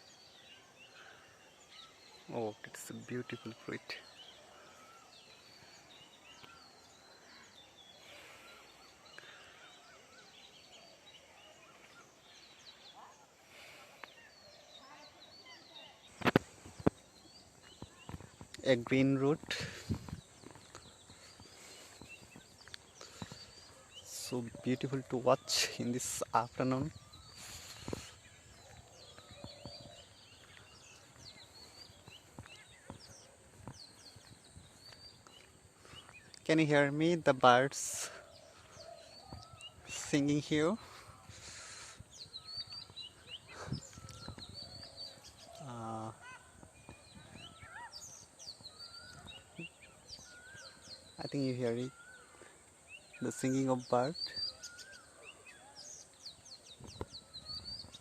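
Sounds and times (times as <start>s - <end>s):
faint birdsong: 0.0s - 58.0s
steady outdoor hiss: 0.0s - 58.0s.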